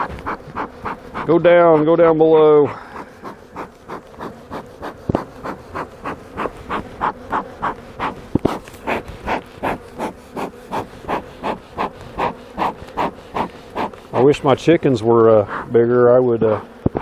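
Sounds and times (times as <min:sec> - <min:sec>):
fast even panting: 0:00.0 - 0:14.4, 0:15.3 - 0:15.9
honey bees humming: 0:00.0 - 0:17.0.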